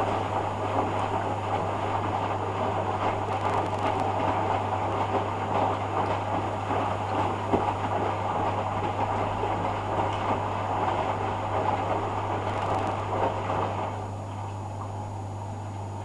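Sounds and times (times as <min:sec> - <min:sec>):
washing machine drum humming: 0:00.0 - 0:16.0
water and laundry churning: 0:00.0 - 0:16.0.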